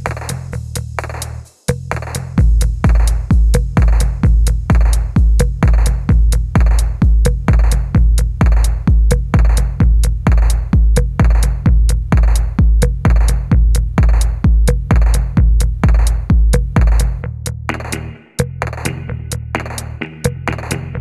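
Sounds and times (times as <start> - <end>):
deep kick drum: 0.0 - 21.0
electronic music with drum-machine beat: 0.0 - 21.0
hi-hat ticks: 0.0 - 21.0.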